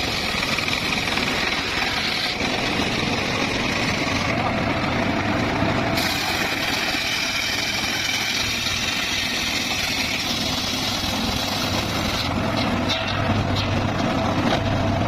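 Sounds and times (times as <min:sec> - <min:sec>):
circular saw cutting wood: 0:00.0 - 0:14.6
engine running: 0:00.0 - 0:15.0.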